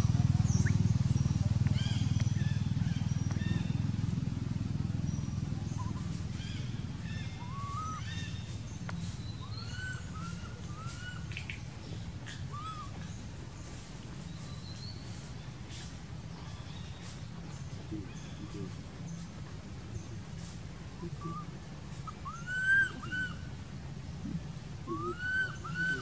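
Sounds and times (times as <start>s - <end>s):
short chirping calls: 0.0s - 4.2s, 4.9s - 26.0s
low steady hum: 0.0s - 26.0s.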